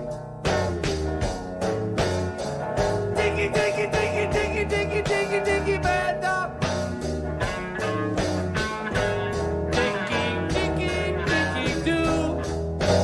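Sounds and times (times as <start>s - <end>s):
rock music: 0.0s - 13.0s.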